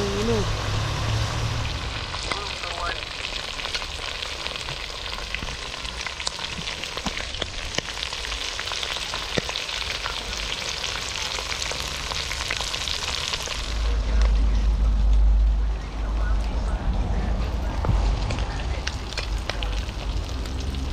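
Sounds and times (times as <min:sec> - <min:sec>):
sharp crackles and pops: 0:00.0 - 0:15.6, 0:16.4 - 0:20.9
hot oil sizzling: 0:00.0 - 0:20.9.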